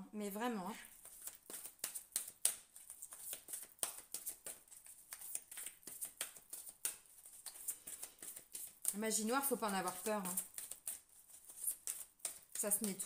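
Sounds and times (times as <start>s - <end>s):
cards being shuffled: 0.9s - 13.0s.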